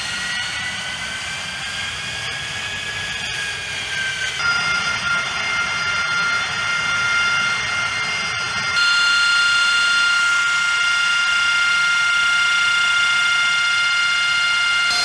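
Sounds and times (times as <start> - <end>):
jet engine whine: 0.0 - 15.0.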